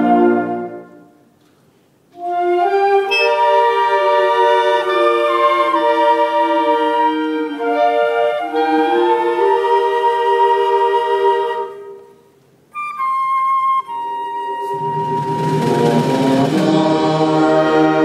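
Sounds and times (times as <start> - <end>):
band playing brass and woodwind chords: 0.0 - 1.0, 2.2 - 11.9, 12.9 - 18.0.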